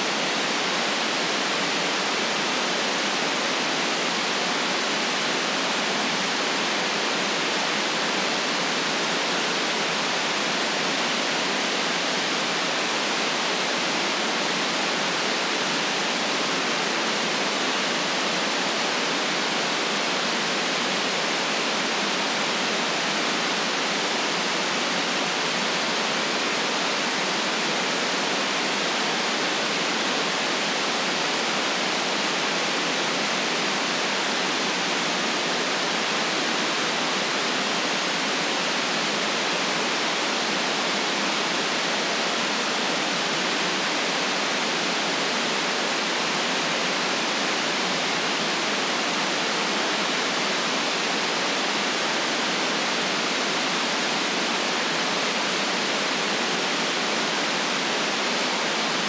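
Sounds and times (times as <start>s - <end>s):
steady white noise: 0.0s - 59.0s.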